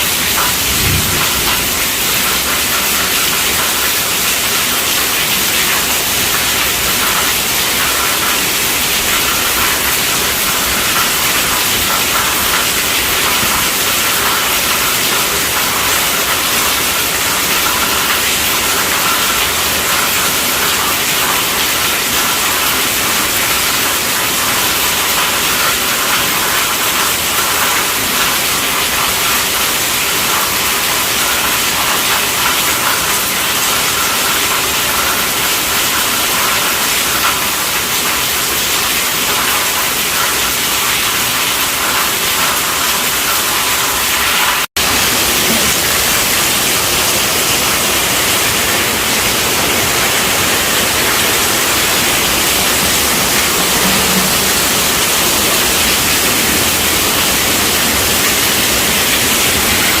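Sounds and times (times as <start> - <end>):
loud rain hiss: 0.0 - 60.0.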